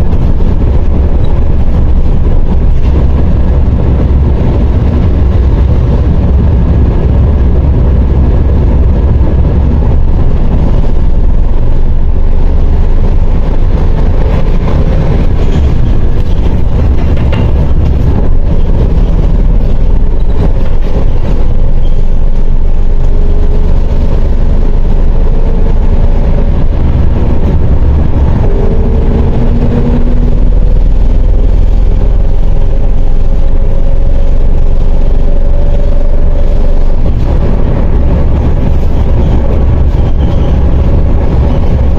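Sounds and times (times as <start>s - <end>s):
bus engine and road rumble: 0.0s - 41.9s
whine rising in pitch: 0.0s - 41.9s.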